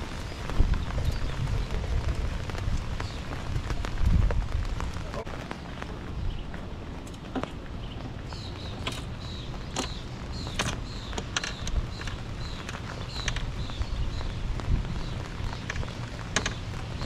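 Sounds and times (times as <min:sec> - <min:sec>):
raindrops tapping: 0:00.0 - 0:17.0
wind rumbling on microphone: 0:00.0 - 0:17.0.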